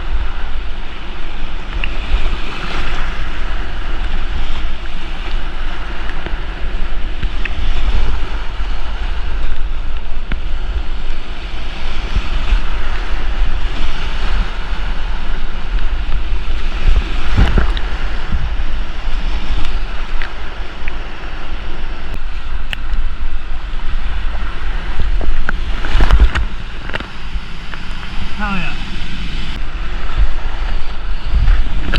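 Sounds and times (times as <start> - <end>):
whitewater rushing: 0.0 - 31.9
wind buffeting microphone: 0.0 - 31.9.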